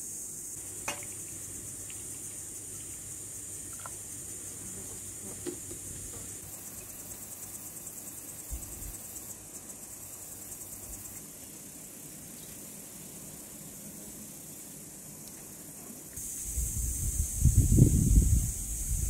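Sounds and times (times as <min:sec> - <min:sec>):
fast pulsing insect chirp: 0:00.0 - 0:15.6, 0:16.2 - 0:19.0
insects chirring: 0:00.0 - 0:19.0.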